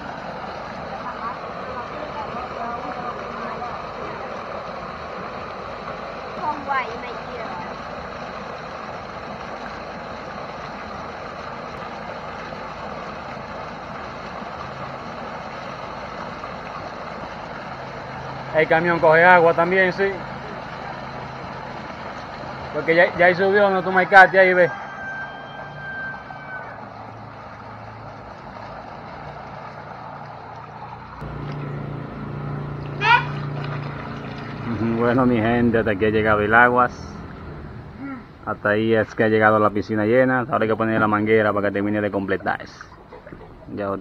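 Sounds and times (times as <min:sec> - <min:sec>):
hose water splashing into pool: 0:00.0 - 0:37.9, 0:38.5 - 0:44.0
truck engine hum: 0:00.0 - 0:44.0.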